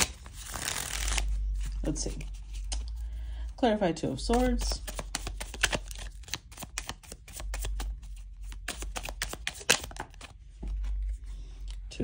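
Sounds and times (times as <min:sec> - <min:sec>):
cards being shuffled: 0:00.0 - 0:03.1, 0:04.2 - 0:11.2.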